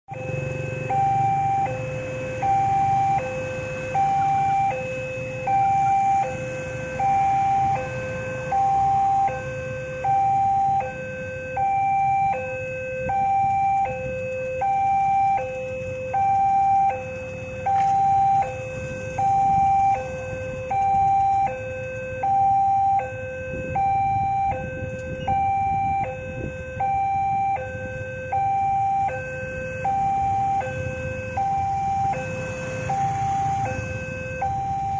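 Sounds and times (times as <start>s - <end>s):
motorcycle traffic rumble: 0.1s - 34.9s.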